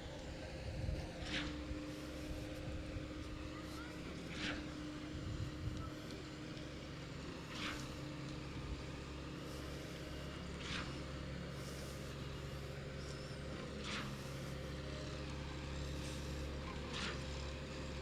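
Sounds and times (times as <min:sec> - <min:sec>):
heavy machinery engine running: 0:00.0 - 0:18.0.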